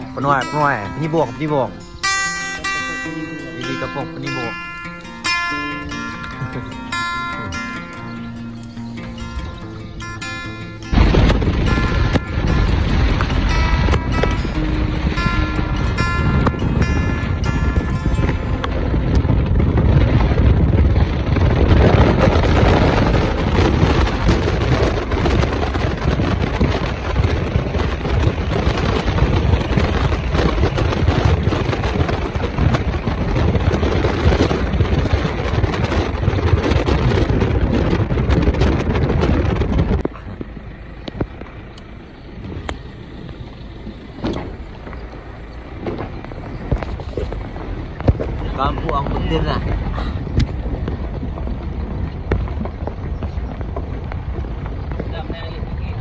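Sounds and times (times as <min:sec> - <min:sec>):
car wind and road noise: 0:00.0 - 0:56.0.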